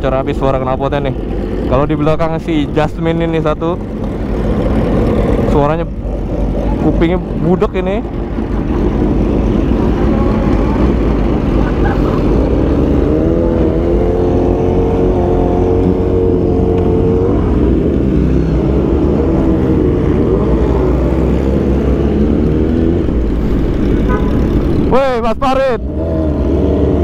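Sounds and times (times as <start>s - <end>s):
loud motorcycle engines: 0.0s - 27.0s.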